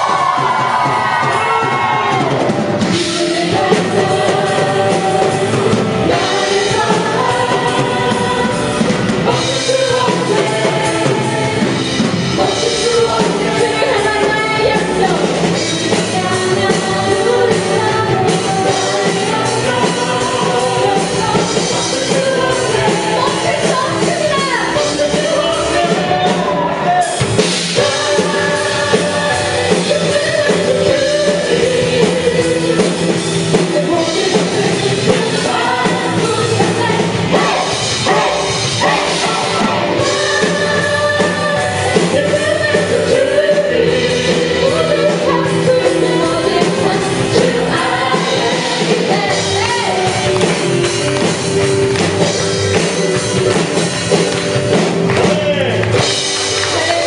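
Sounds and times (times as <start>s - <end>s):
live worship band with singing: 0.0s - 57.0s.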